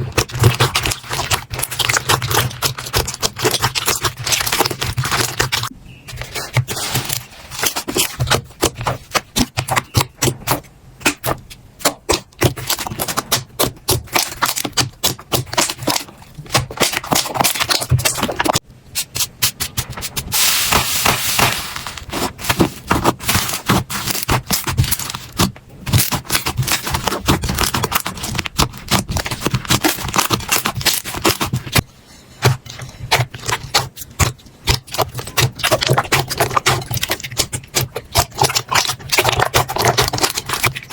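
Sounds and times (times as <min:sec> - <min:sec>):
slime crackling and popping: 0:00.0 - 0:05.7, 0:06.6 - 0:19.8, 0:20.4 - 0:31.8, 0:33.1 - 0:40.9.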